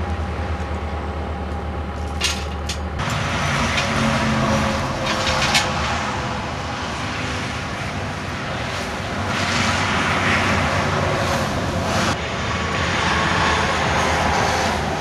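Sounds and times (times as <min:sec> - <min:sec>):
heavy machinery engine running: 0:00.0 - 0:15.0
rushing noise: 0:00.0 - 0:15.0.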